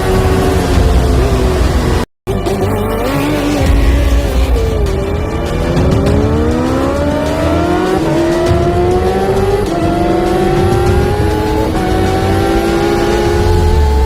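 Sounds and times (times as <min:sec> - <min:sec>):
motorcycle engine accelerating through gears: 0:00.0 - 0:02.0, 0:02.8 - 0:14.0.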